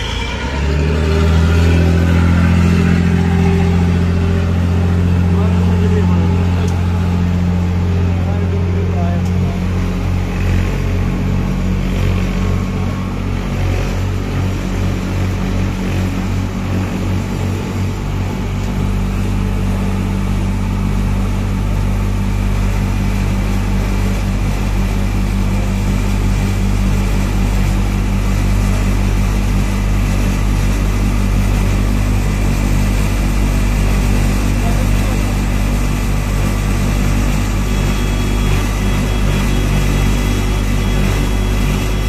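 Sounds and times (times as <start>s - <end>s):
boat engine humming: 0.0s - 42.0s
water wash: 0.0s - 42.0s.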